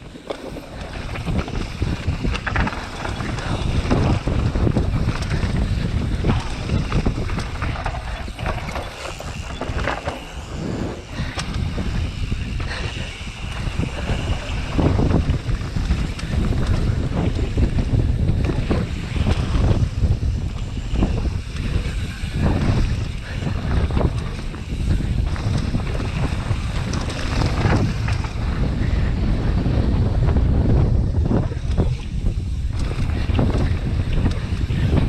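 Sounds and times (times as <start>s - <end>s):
mountain bike rumbling and rattling: 0.0s - 35.0s
wind on microphone: 0.0s - 35.0s.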